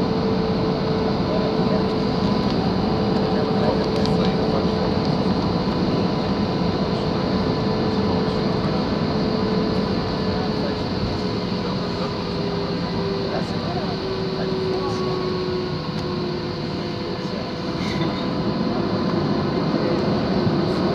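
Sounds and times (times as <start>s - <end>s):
airliner cabin jet engine hum: 0.0s - 20.9s.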